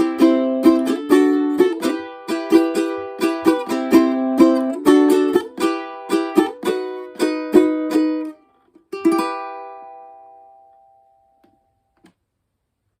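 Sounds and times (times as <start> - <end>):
ukulele strumming: 0.0 - 12.1.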